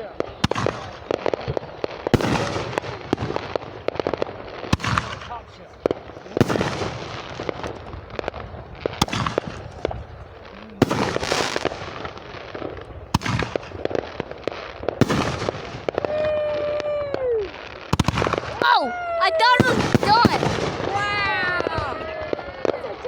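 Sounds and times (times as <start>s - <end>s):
firework bangs: 0.0s - 23.0s
firework crackling and pops: 0.0s - 23.0s.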